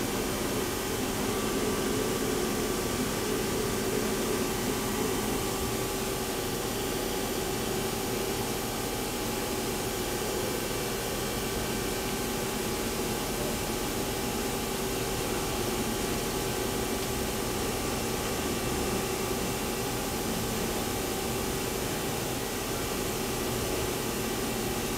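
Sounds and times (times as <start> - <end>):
machine hum with whining tones: 0.0 - 24.9.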